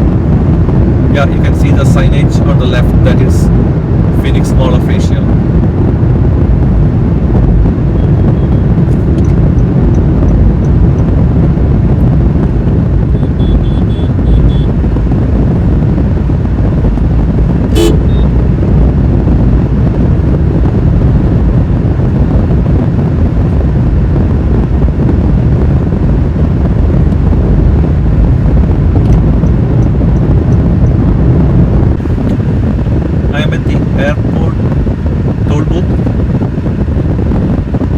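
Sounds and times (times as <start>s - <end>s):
car driving at highway speed: 0.0s - 37.9s.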